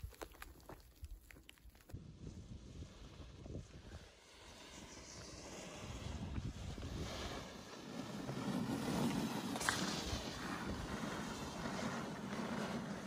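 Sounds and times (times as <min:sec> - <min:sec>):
wind noise on microphone: 0:00.0 - 0:13.0
snowboard scraping over snow: 0:02.2 - 0:13.0.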